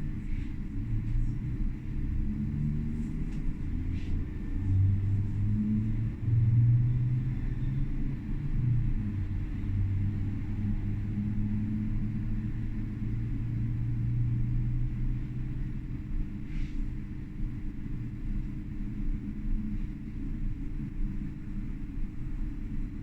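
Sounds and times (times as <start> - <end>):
tram rumbling and humming: 0.0 - 23.0.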